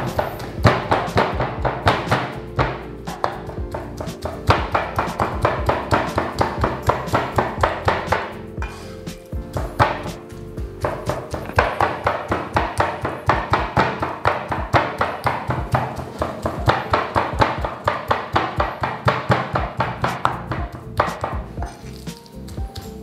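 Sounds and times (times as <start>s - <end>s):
cleaver chopping meat on wood: 0.0s - 8.7s, 10.8s - 23.0s.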